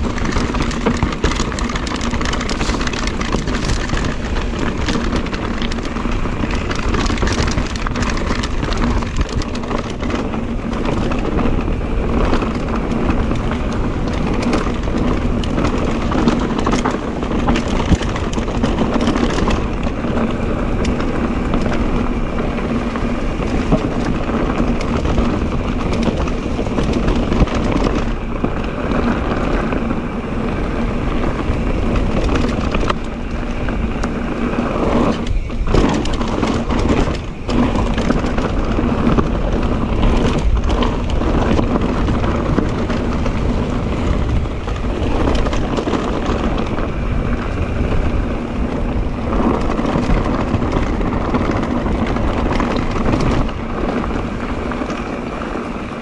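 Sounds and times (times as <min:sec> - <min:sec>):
bike rattling over rough trail: 0:00.0 - 0:56.0.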